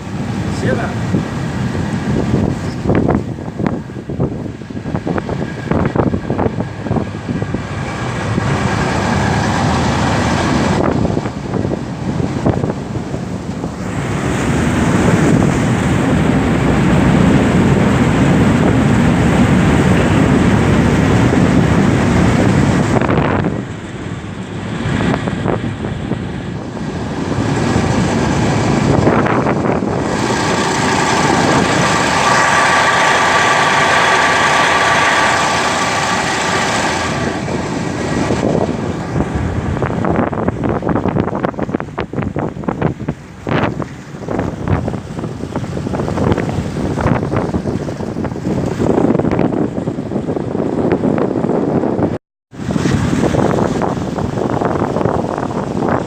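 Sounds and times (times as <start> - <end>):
outboard motor running: 0.0 - 51.2
engine whine: 0.0 - 56.0
wind on microphone: 0.0 - 56.0.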